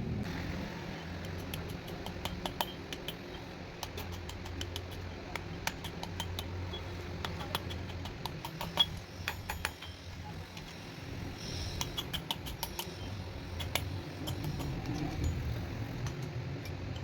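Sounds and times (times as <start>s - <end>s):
steady low hum: 0.0s - 17.0s
small clicks and metallic taps: 1.2s - 10.8s, 11.5s - 17.0s.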